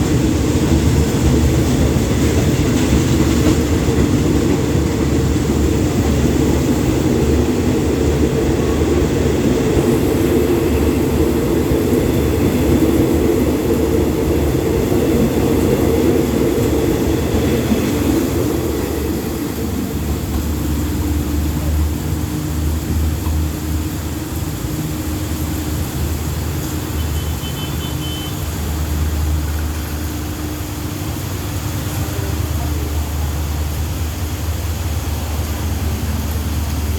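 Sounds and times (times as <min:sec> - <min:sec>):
train rumbling past on rails: 0:00.0 - 0:36.9.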